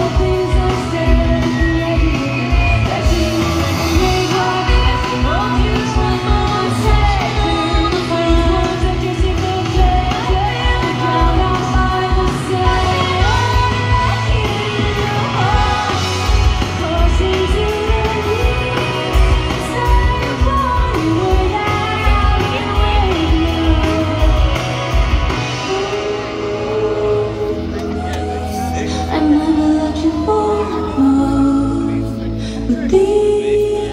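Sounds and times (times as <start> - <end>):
live pop band playing: 0.0 - 33.9
woman singing lead: 0.0 - 33.9.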